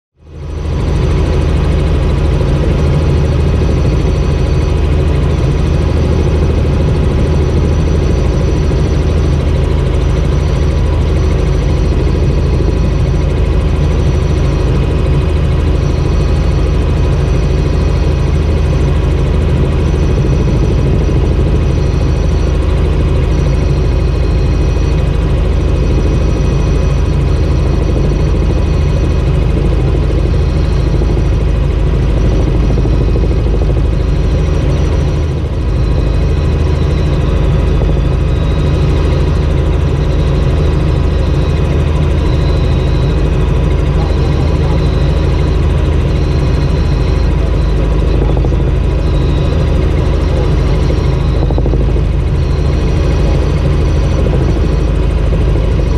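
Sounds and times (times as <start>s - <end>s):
helicopter engine and rotor drone: 0.1s - 55.9s.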